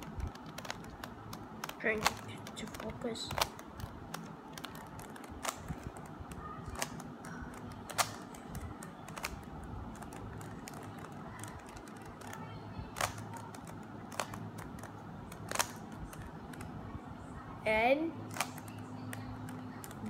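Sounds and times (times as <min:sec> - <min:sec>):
puzzle cube layers clicking: 0:00.0 - 0:16.7.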